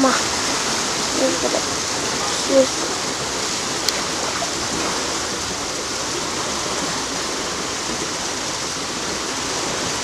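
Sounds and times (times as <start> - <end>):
water rushing and churning: 0.0 - 10.0.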